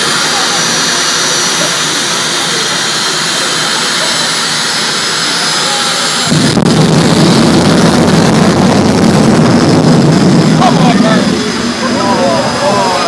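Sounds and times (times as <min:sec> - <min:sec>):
afterburner rumble: 0:00.0 - 0:13.0
jet engine whine: 0:00.0 - 0:13.0.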